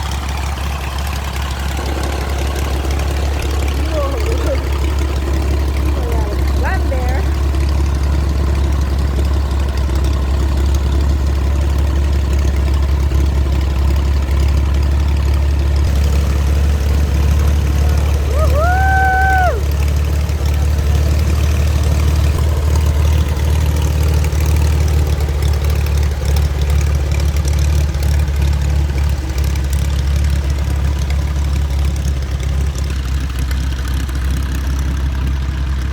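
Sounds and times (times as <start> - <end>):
engine droning: 0.0 - 35.9.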